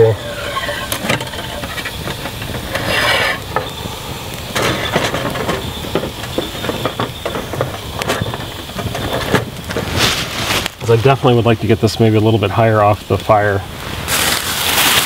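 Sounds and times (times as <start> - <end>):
wet wood fire crackling: 0.0 - 15.0.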